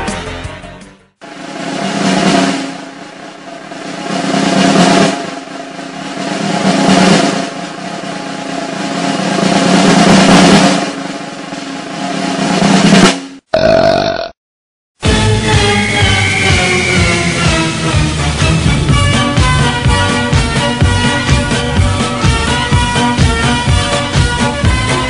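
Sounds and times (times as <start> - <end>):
snare drum roll: 1.2 - 13.5, 15.0 - 25.0.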